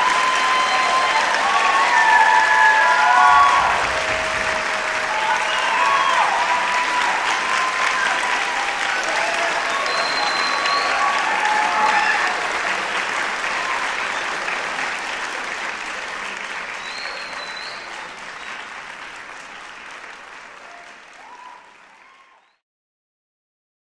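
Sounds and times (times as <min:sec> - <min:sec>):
audience applauding: 0:00.0 - 0:22.6.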